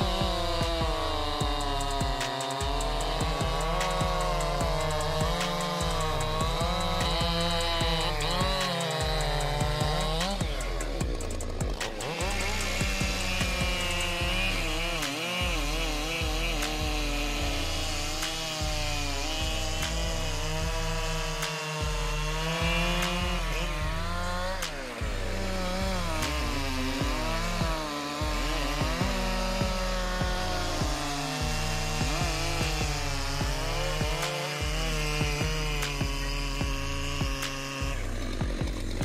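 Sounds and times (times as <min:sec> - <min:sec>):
chainsaws cutting logs: 0:00.0 - 0:39.0.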